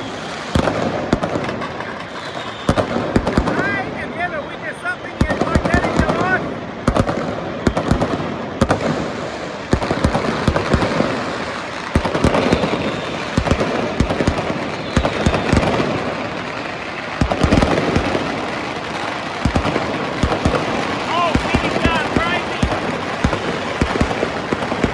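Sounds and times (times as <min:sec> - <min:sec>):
loud firework bangs: 0:00.0 - 0:04.0, 0:05.0 - 0:24.9
fireworks crackling: 0:00.0 - 0:24.9.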